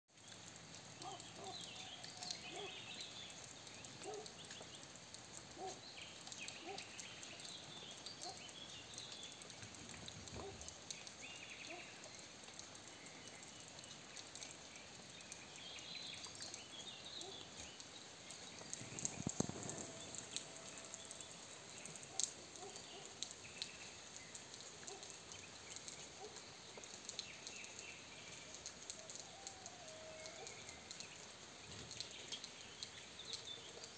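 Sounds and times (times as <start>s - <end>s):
soft steady rain: 0.1s - 33.9s
small birds chirping: 0.2s - 33.9s.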